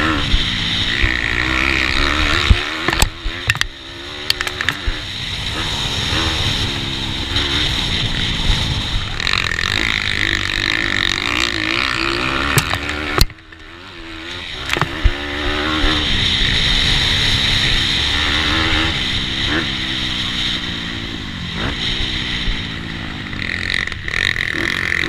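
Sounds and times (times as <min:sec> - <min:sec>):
pitbike engine revving: 0:00.0 - 0:25.0.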